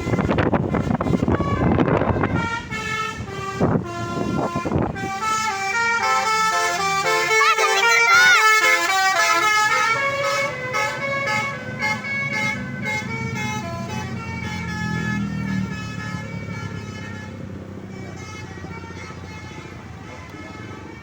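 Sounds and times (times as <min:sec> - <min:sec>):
bus musical horn: 0:00.0 - 0:21.0
low engine rumble: 0:00.0 - 0:21.0.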